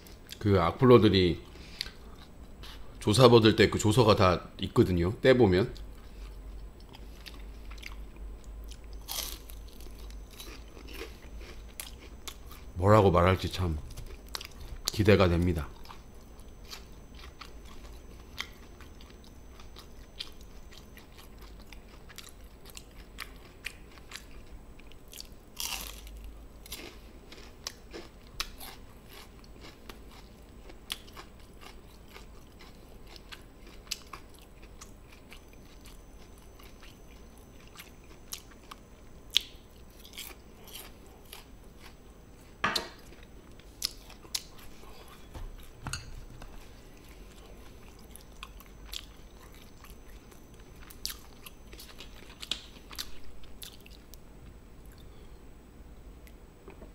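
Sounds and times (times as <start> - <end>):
person chewing crunchy food: 5.8 - 12.8, 13.6 - 54.2.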